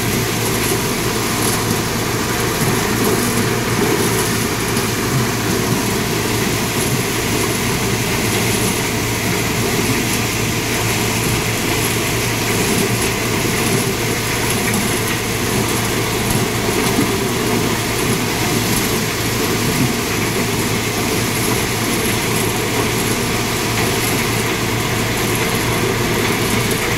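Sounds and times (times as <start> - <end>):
thresher machine noise: 0.0 - 26.9.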